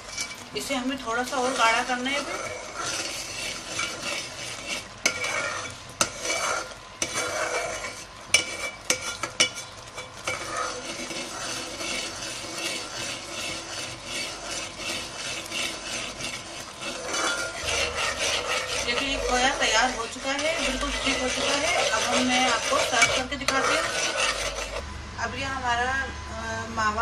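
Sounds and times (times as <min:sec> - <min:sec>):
metal spoon scraping a pot: 0:00.0 - 0:24.8.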